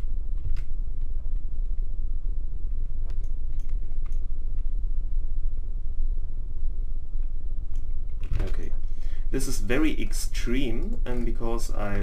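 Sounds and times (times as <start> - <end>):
low rumble of background noise: 0.0 - 12.0.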